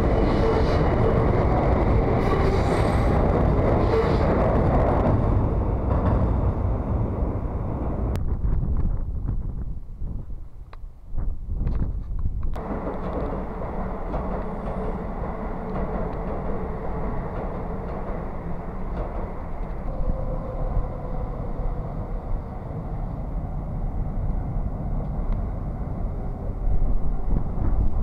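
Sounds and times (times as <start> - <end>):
electric train rumbling past: 0.0 - 10.0, 12.6 - 28.0.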